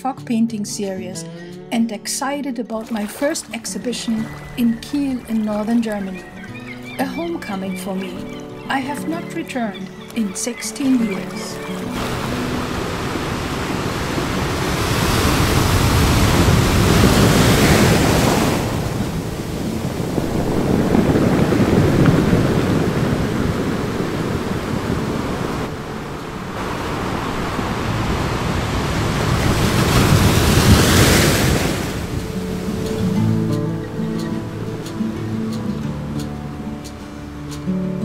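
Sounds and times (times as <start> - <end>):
sea waves washing: 2.7 - 38.0.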